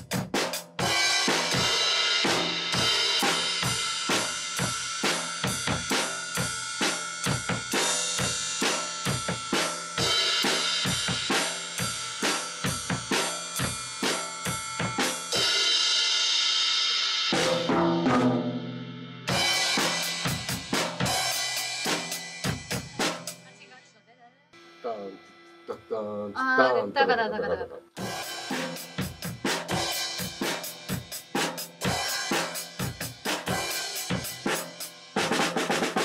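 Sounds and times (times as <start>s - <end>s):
drum kit rock beat: 0.0s - 23.8s, 28.0s - 36.0s.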